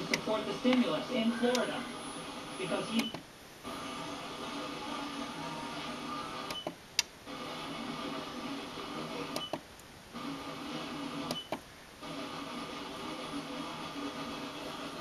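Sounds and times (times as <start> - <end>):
radio static and hum: 0.0 - 6.6, 7.2 - 15.0.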